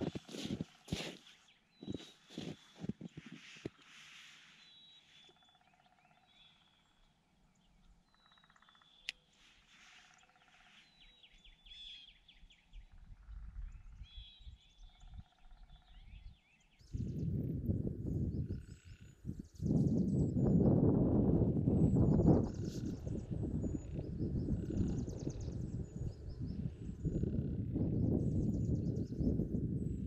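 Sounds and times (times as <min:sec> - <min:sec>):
birds chirping and trilling: 0:00.0 - 0:30.0.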